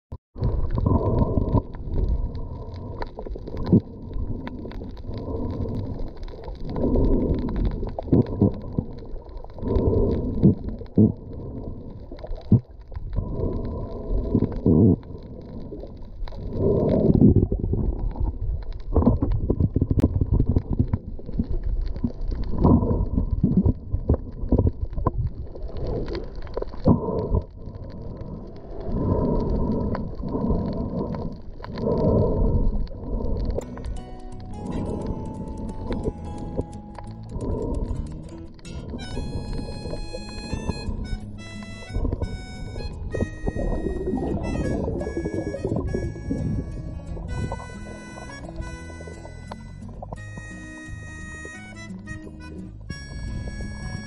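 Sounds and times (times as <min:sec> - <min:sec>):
underwater gurgling and swishing: 0:00.4 - 0:54.0.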